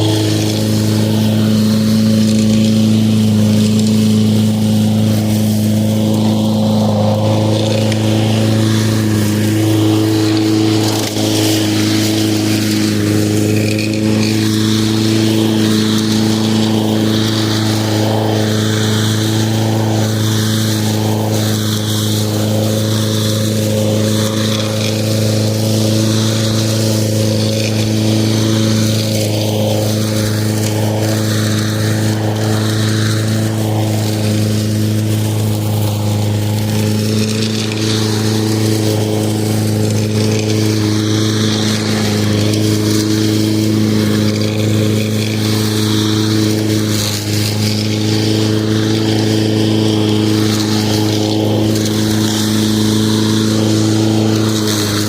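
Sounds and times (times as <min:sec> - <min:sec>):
lawn mower running: 0:00.0 - 0:55.0.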